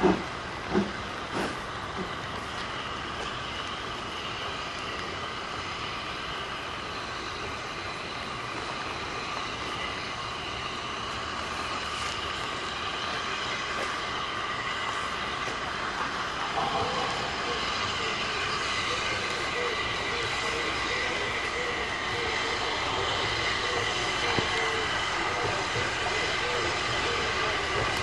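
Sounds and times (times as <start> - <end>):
hiss of escaping steam: 0.0 - 28.0
steam locomotive moving slowly: 0.0 - 28.0.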